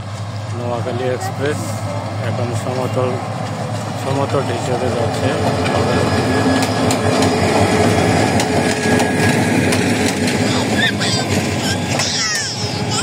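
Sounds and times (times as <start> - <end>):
diesel locomotive engine drone: 0.0 - 13.0
train coaches rolling past: 0.0 - 13.0.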